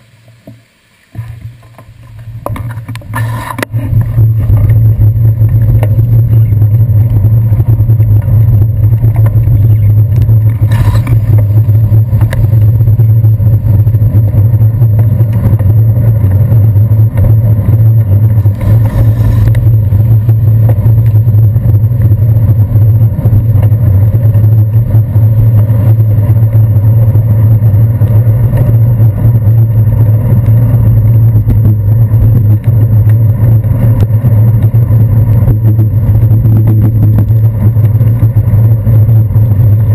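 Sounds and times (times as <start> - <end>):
bicycle rumble on wet road: 0.0 - 39.9.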